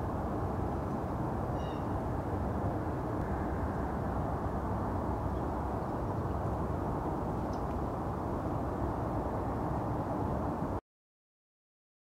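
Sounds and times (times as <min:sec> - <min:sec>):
low rumbling outdoor noise: 0:00.0 - 0:10.8.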